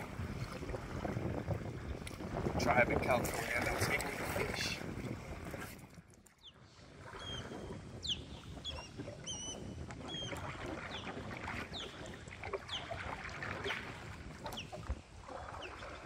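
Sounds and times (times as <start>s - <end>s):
water washing along canoe hull: 0.0s - 16.0s.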